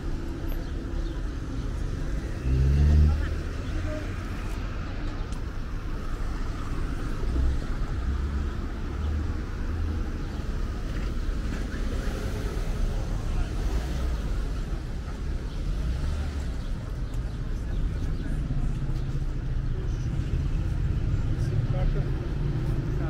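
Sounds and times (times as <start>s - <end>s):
cars driving past: 0.0s - 23.0s
low road rumble: 0.0s - 23.0s.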